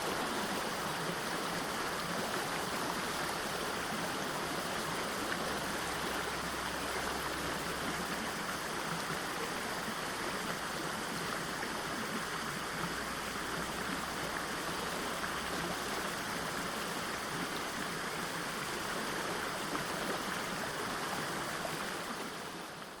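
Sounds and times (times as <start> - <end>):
water rushing at a waterfall: 0.0 - 23.0.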